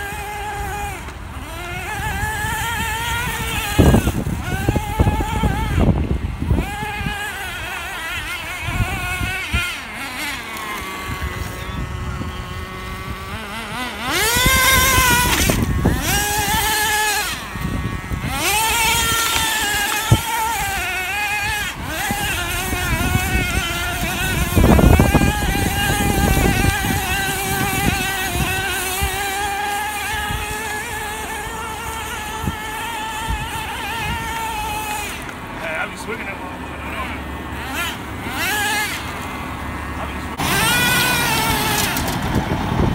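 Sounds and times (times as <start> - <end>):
small two-stroke engine buzzing: 0.0 - 42.9.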